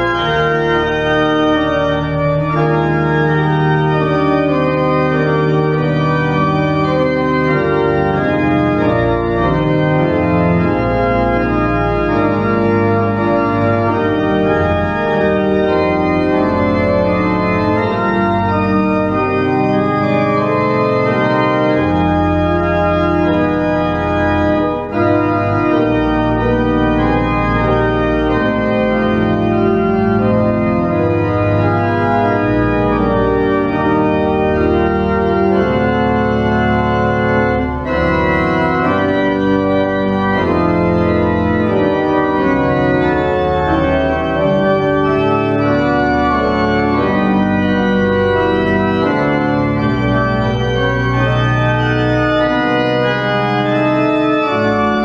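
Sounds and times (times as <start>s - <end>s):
pipe organ chords: 0.0s - 55.0s.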